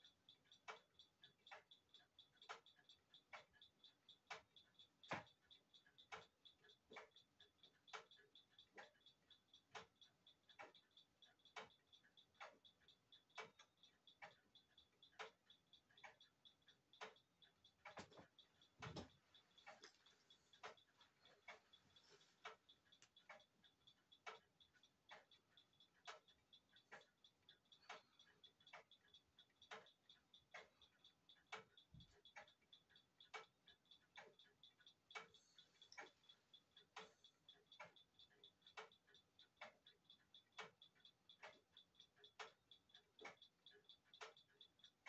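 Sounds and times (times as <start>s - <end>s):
alarm clock ticking: 0.0s - 45.0s.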